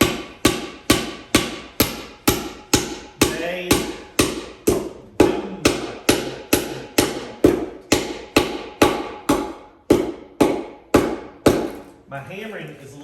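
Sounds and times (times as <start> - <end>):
hammer driving nails into wood: 0.0 - 11.9.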